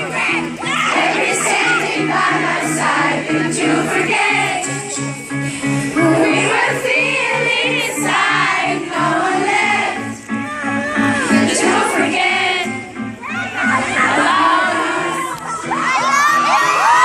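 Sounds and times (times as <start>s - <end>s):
crowd singing along: 0.0s - 15.8s.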